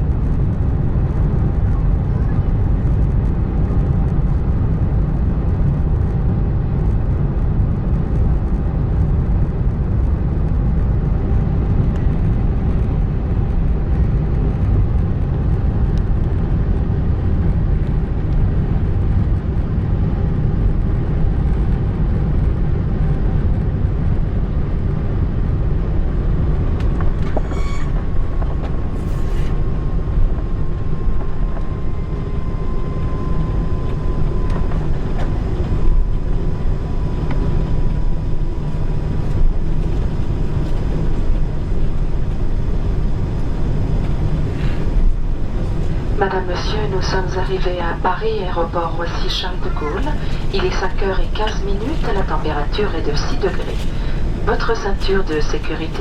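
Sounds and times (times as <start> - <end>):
aircraft cabin engine rumble: 0.0 - 56.0
faint steady whine: 0.0 - 56.0.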